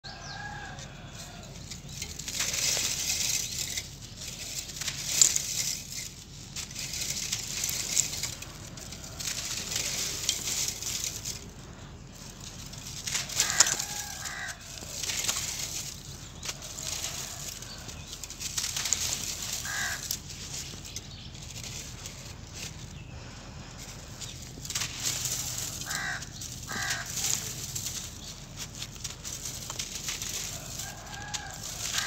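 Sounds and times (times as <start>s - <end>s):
grit pouring onto wire grate: 0.4s - 20.9s, 24.5s - 32.0s
dry cement lumps crushed by hand: 0.5s - 32.0s.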